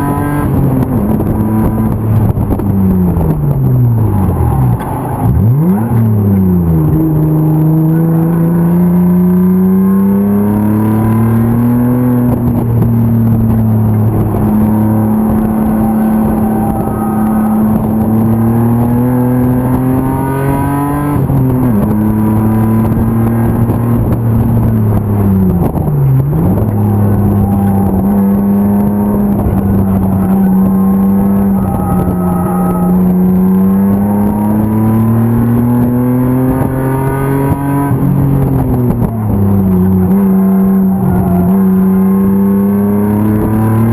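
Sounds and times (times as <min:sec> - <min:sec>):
race car engine running hard: 0:00.0 - 0:43.9.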